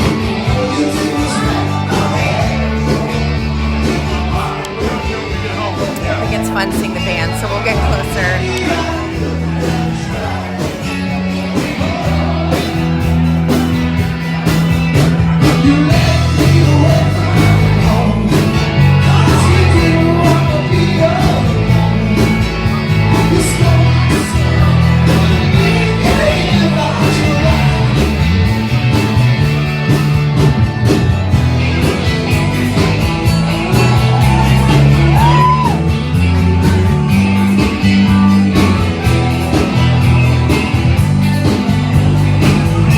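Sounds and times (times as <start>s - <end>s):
bass line: 0.0s - 42.9s
guitar: 0.0s - 42.9s
drum beat: 1.0s - 42.9s.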